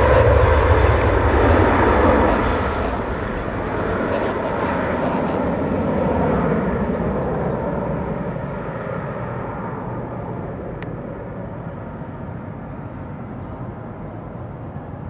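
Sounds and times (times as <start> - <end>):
jet engine rushing: 0.0 - 13.2.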